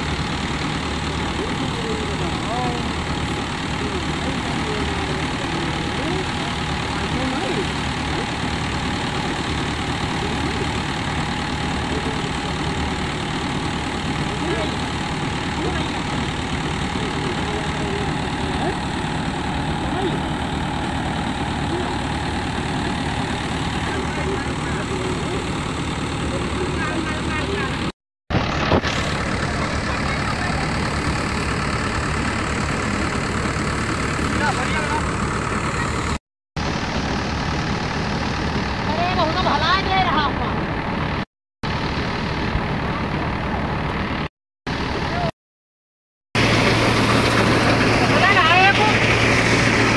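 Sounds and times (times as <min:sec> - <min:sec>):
paddy thresher engine droning: 0:00.0 - 0:45.3, 0:46.4 - 0:49.9.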